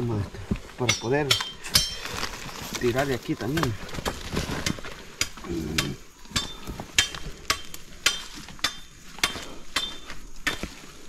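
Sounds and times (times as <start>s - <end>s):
metal tool striking hard earth: 0.8s - 11.0s.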